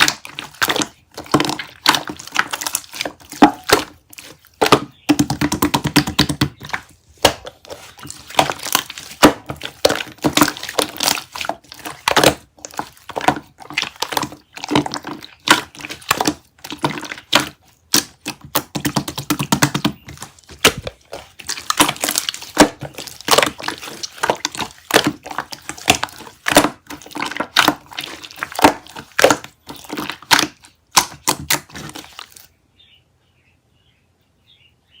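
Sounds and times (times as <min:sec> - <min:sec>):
slime crackling and popping: 0:00.0 - 0:32.5.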